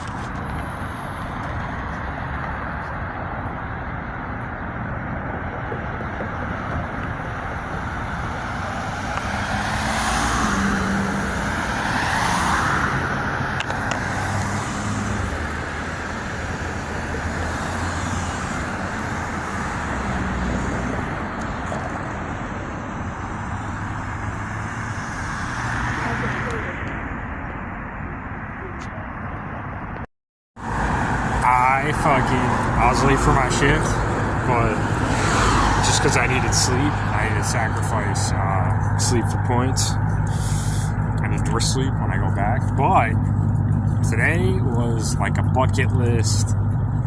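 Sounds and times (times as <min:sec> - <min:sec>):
road traffic: 0:00.0 - 0:47.0.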